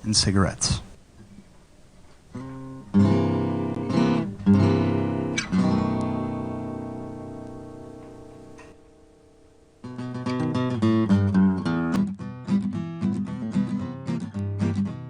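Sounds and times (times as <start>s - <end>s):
acoustic guitar strummed chords: 2.4s - 15.0s.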